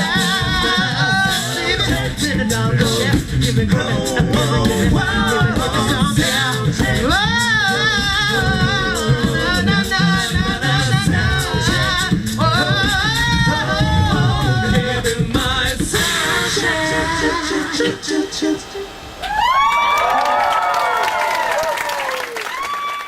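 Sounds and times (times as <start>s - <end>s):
beatboxed rhythm: 0.0s - 18.6s
vocal bass line: 0.0s - 18.8s
voices singing in harmony: 0.0s - 19.5s.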